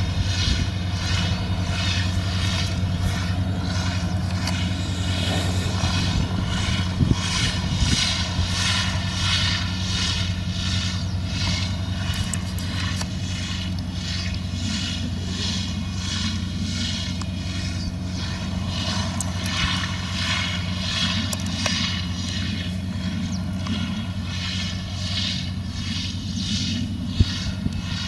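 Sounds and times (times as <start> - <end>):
pulsing slurry spray hiss: 0.0 - 28.0
tractor engine drone: 0.0 - 28.0.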